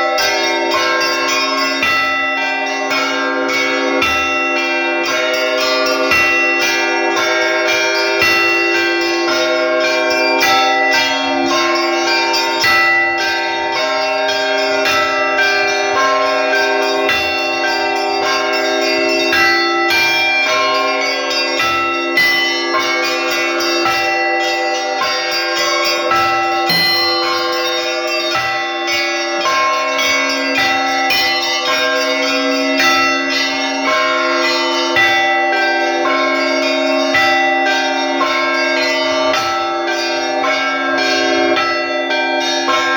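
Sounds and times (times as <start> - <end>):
hum of large bells: 0.0 - 42.9
small church bells ringing fast: 0.0 - 42.9.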